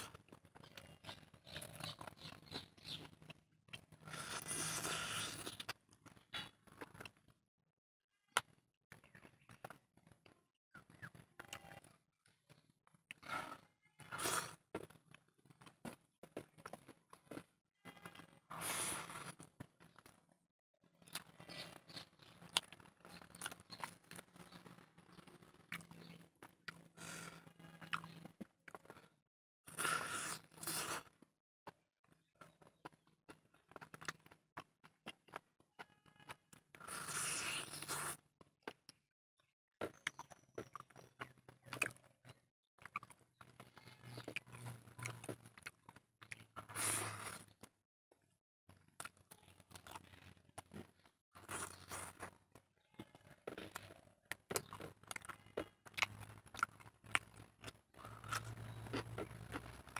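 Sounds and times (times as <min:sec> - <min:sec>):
wet chewing: 0:00.0 - 0:07.3, 0:12.5 - 0:20.2, 0:21.0 - 0:29.1, 0:32.2 - 0:39.0, 0:39.8 - 0:47.7, 0:48.9 - 0:59.9.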